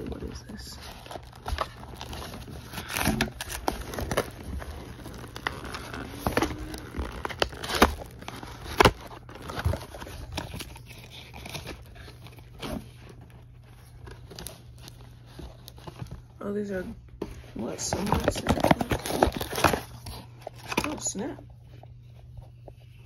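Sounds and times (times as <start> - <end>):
cardboard box packaging rustling: 0.0 - 22.9.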